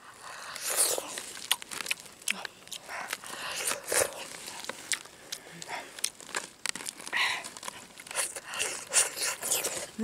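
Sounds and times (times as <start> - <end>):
fish being bitten and chewed: 0.2 - 9.9.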